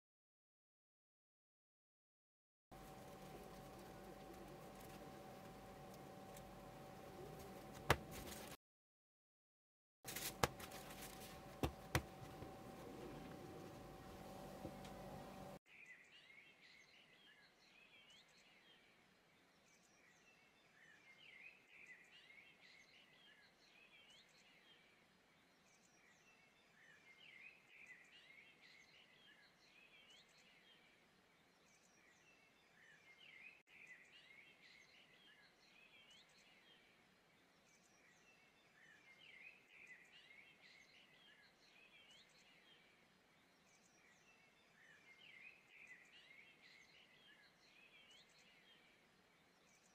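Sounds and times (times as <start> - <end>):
faint birdsong: 2.8 - 8.5, 10.5 - 49.9.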